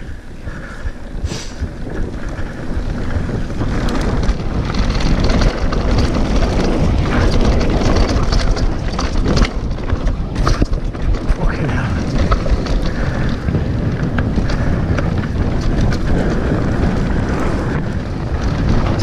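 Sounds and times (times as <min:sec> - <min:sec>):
bike tyres rumbling over dirt: 0:00.0 - 0:19.0
wind buffeting microphone: 0:00.0 - 0:19.0
bike knocking over bumps: 0:01.8 - 0:19.0.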